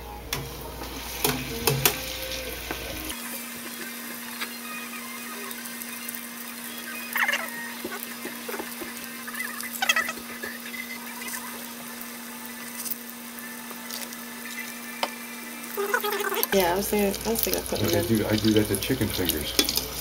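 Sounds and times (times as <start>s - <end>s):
oil sizzling and bubbling: 0.0s - 20.0s.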